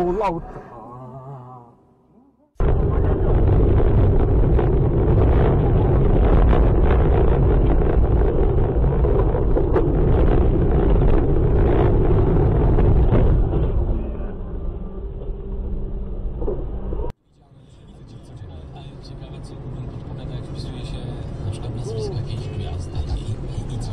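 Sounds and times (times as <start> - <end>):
car road and engine rumble: 2.6 - 23.9.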